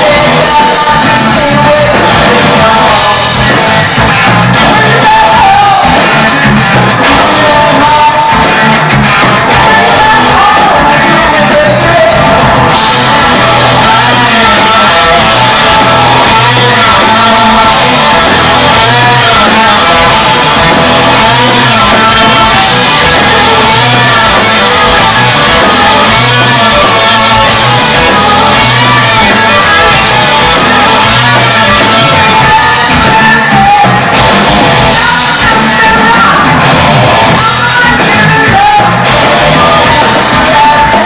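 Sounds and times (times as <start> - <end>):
bass guitar: 0.0 - 41.0
distorted electric guitars: 0.0 - 41.0
drums: 0.0 - 41.0.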